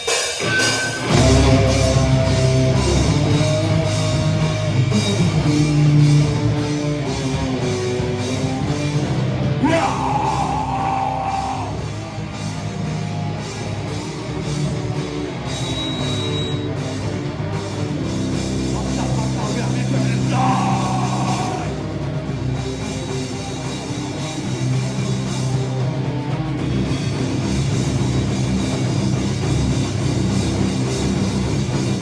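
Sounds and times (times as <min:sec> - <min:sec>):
fast drum kit beat: 0:00.0 - 0:32.0
heavy rock band playing live: 0:00.0 - 0:32.0
loud electric guitars: 0:00.0 - 0:32.0.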